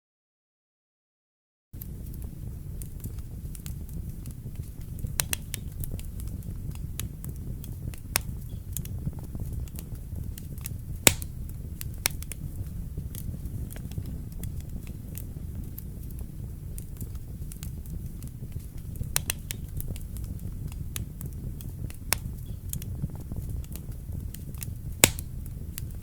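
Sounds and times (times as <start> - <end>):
wood fire crackling and popping: 1.8 - 26.0.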